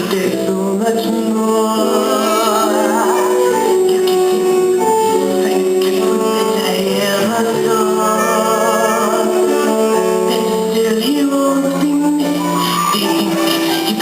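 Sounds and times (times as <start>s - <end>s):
instrumental accompaniment: 0.0s - 14.0s
voices singing: 0.0s - 14.0s.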